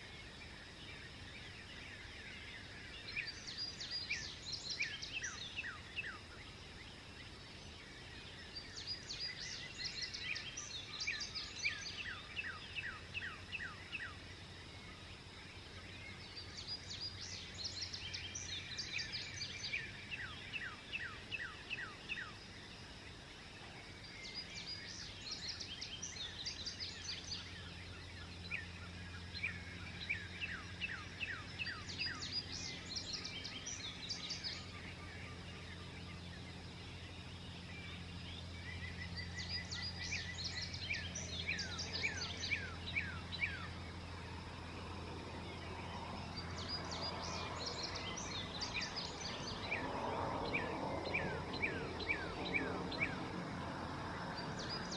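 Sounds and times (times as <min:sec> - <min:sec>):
songbird singing: 0:00.0 - 0:54.9.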